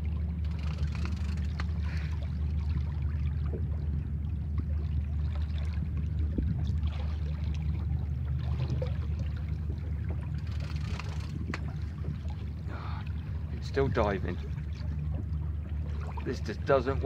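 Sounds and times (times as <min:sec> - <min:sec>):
steady low rumble: 0:00.0 - 0:17.0
water lapping against boat hull: 0:00.0 - 0:17.0.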